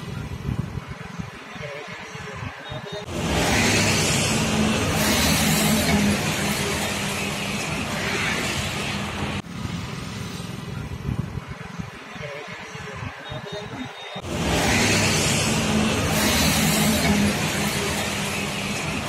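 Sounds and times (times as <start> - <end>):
roadside ambience: 0.0 - 19.0.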